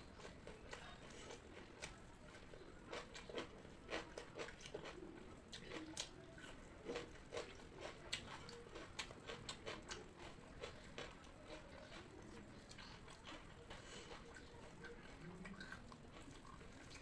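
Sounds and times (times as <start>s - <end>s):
chewing wet crunchy food: 0.0s - 17.0s.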